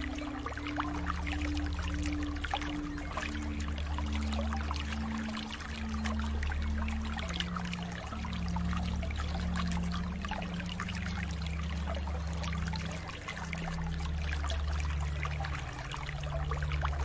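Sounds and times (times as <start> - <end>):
low steady hum: 0.0 - 17.0
water trickling and splashing: 0.0 - 17.0.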